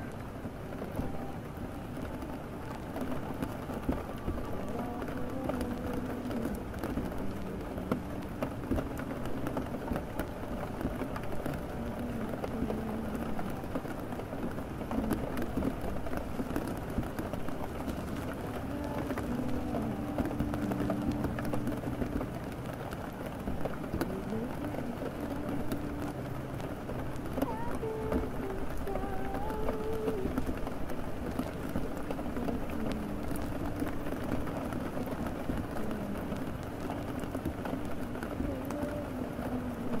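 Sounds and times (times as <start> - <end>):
muffled tune: 0.0 - 40.0
steady rain: 0.0 - 40.0.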